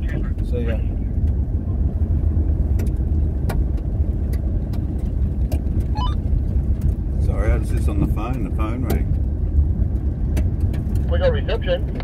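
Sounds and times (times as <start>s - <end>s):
engine and tyres on gravel rumble: 0.0s - 12.0s.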